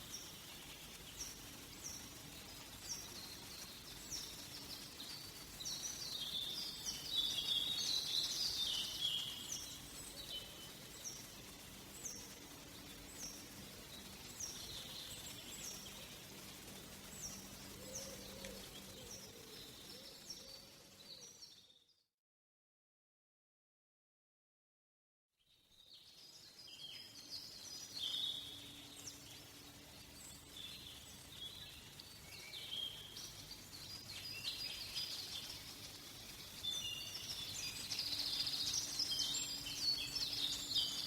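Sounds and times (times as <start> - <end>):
several birds singing together: 0.0 - 21.9, 25.7 - 41.0.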